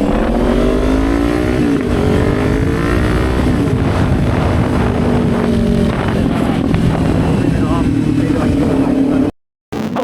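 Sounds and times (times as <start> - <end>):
motorcycle engine accelerating: 0.0 - 9.3
low wind rush: 0.0 - 10.0.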